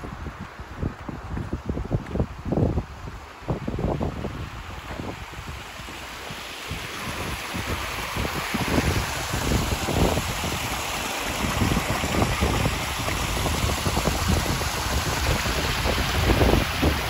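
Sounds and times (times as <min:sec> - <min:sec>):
waterfall splashing over boulders: 0:00.0 - 0:17.0
wind buffeting microphone: 0:00.0 - 0:17.0.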